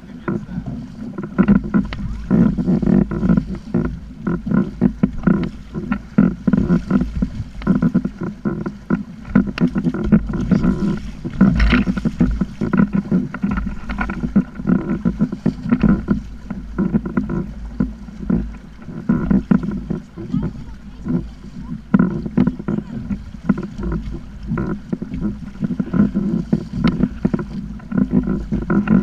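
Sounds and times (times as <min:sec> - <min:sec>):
water slapping against kayak hull: 0:00.0 - 0:29.0
wind rumbling on microphone: 0:00.0 - 0:29.0.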